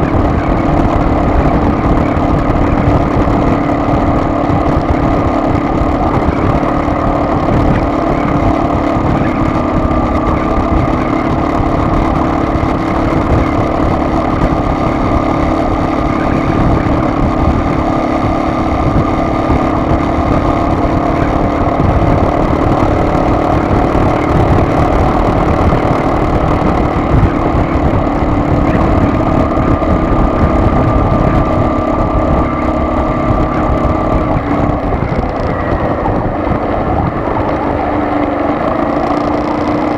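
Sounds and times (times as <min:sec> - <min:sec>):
car engine drone: 0:00.0 - 0:39.9
road and tyre rumble: 0:00.0 - 0:39.9.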